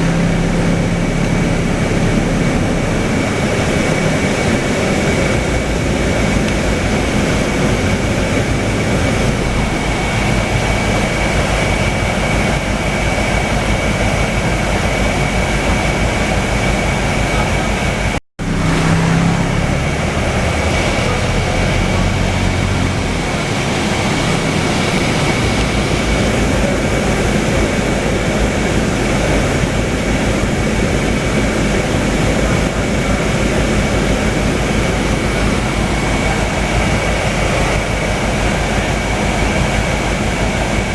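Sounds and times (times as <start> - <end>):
bus diesel engine: 0.0 - 40.9
road noise: 0.0 - 40.9.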